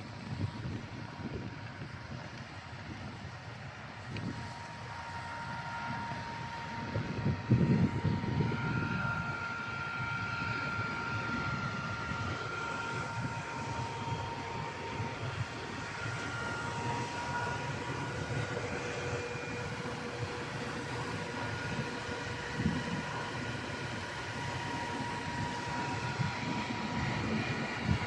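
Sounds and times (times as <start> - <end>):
boat engine drone: 0.0 - 28.0
faint whining tones: 0.0 - 28.0
gusty wind buffeting: 0.0 - 28.0.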